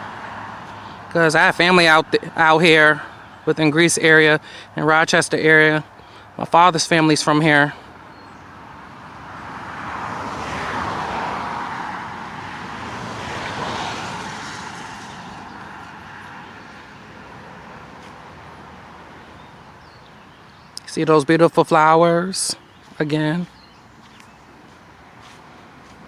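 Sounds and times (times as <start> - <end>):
cars passing on highway: 0.0 - 26.0.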